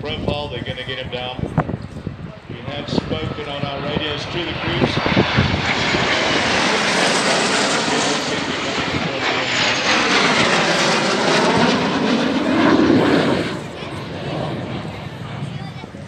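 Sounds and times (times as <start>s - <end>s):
jet aircraft passing low: 0.0s - 16.0s.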